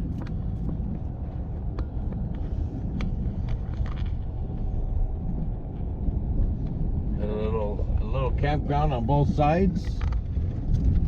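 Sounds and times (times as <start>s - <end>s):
road and engine rumble: 0.0s - 11.0s.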